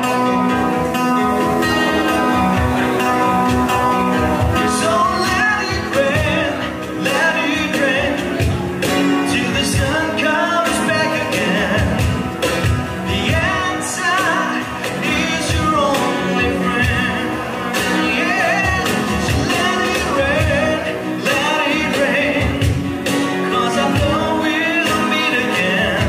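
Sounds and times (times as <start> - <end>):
strummed acoustic guitar: 0.0 - 26.0
man singing: 1.7 - 26.0.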